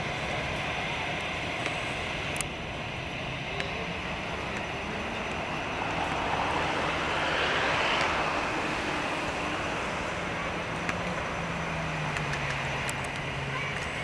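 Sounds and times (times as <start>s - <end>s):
jet engine rushing: 0.0s - 14.0s.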